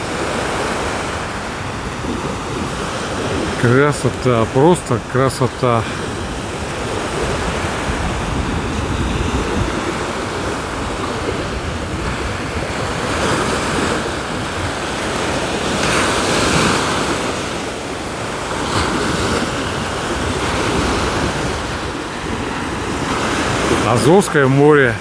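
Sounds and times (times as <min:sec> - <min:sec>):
wind rumbling on microphone: 0:00.0 - 0:03.6, 0:05.8 - 0:25.0
sea waves washing on shore: 0:00.0 - 0:25.0.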